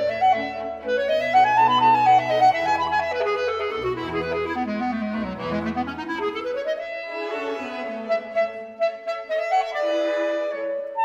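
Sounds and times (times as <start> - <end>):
clarinet playing running scales: 0.0 - 11.0.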